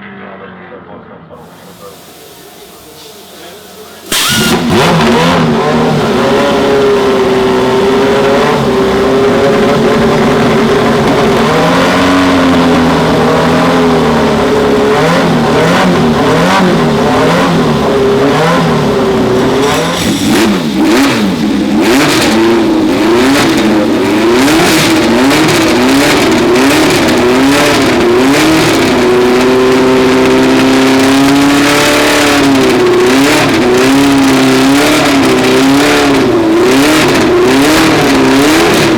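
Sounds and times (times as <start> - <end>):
racing car engine revving: 1.4 - 38.9.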